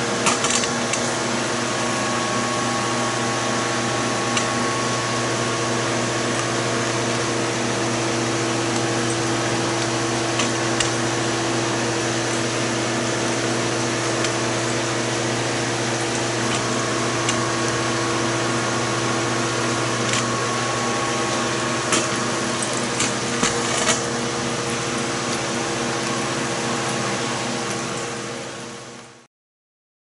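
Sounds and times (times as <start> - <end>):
machinery hum: 0.0 - 29.2.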